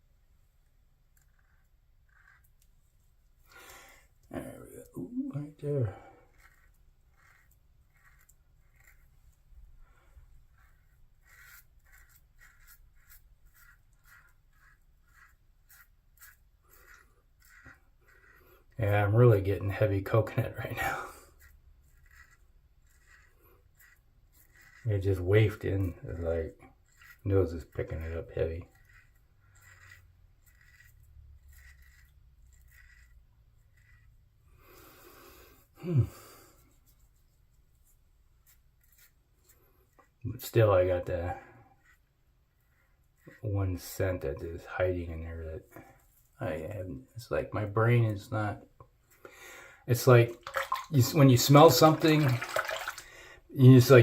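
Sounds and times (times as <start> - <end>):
razor scraping stubble: 0.6 - 54.0.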